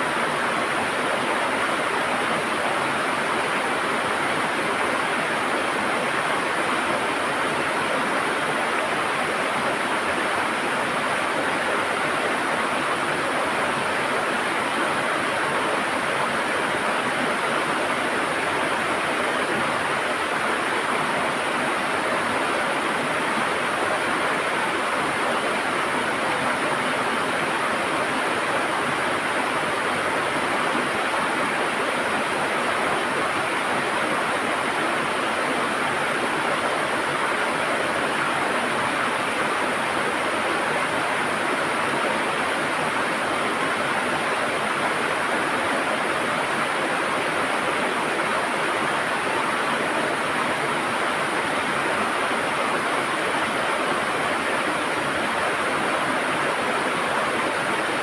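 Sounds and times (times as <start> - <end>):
river water over stones: 0.0 - 58.0.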